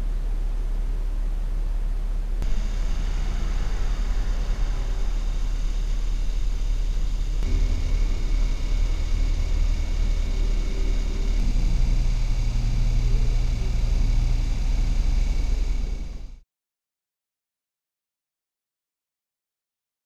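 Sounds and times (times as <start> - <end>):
faint high-pitched whines: 0.0 - 16.4
low mechanical hum and rumble: 0.0 - 16.4.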